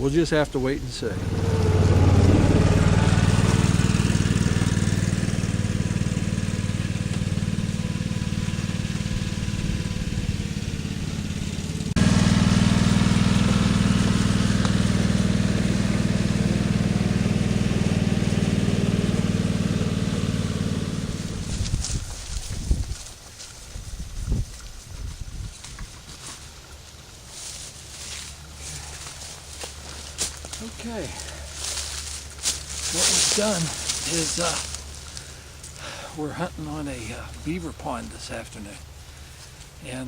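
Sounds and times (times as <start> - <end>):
engine droning: 0.1 - 22.4, 26.0 - 40.0.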